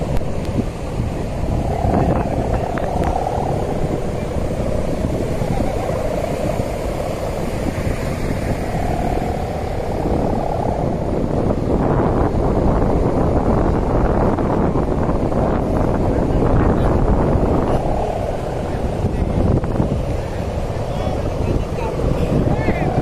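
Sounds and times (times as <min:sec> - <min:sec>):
kite hummers droning: 0:00.0 - 0:23.0
wind buffeting microphone: 0:00.0 - 0:23.0.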